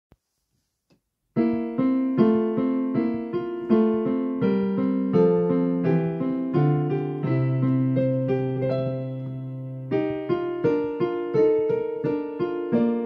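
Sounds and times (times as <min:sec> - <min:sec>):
digital piano chords: 0:01.4 - 0:13.0.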